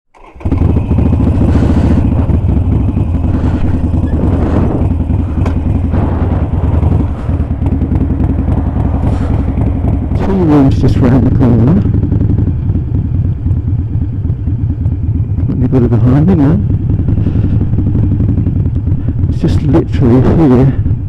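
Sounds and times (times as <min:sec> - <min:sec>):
motorcycle engine running loudly: 0:00.2 - 0:21.0.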